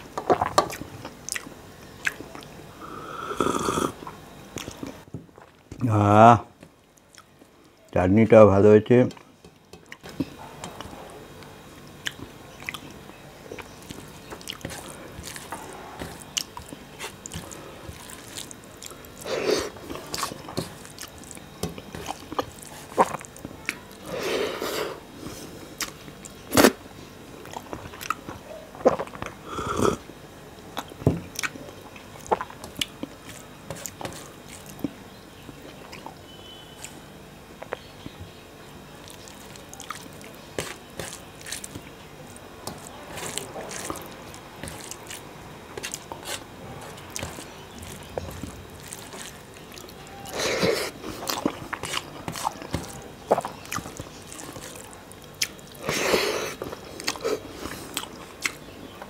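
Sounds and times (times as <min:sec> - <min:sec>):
man chewing with wet mouth smacks: 0:00.0 - 0:02.6, 0:04.0 - 0:05.6, 0:09.2 - 0:23.8, 0:25.6 - 0:26.8, 0:27.4 - 0:38.2, 0:39.0 - 0:59.0.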